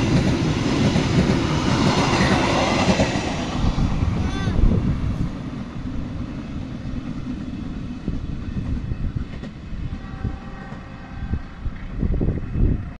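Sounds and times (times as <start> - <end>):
train rumbling on track: 0.0 - 12.9.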